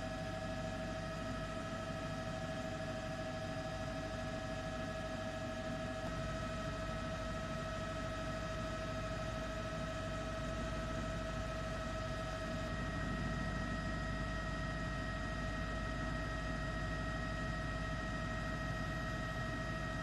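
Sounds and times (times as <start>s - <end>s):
helicopter engine drone: 0.0s - 20.0s.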